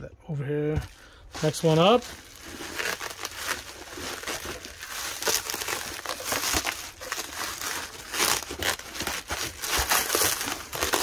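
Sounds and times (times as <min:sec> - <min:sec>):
bubble wrap crinkling: 0:00.9 - 0:11.0.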